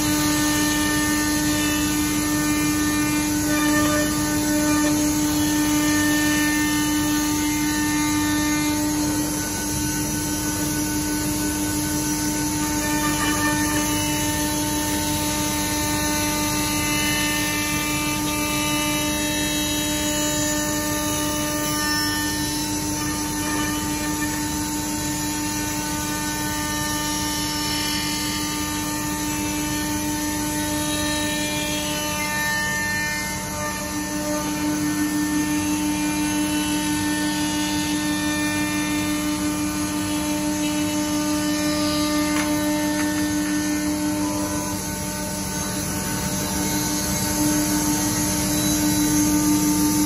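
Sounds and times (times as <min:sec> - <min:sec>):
router spindle whine: 0:00.0 - 0:50.0
wood cutting noise: 0:00.0 - 0:50.0.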